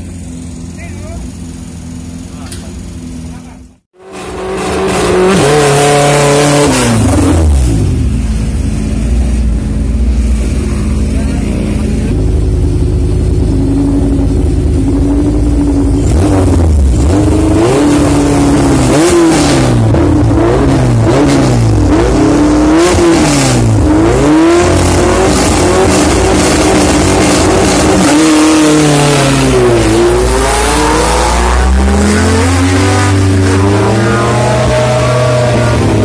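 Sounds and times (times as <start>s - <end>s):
drag car engine revving: 0.0s - 36.0s.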